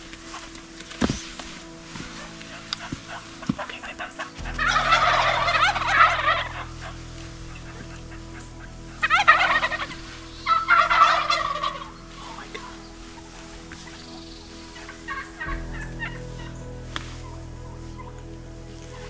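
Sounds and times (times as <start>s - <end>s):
turkeys gobbling: 2.2s - 18.2s.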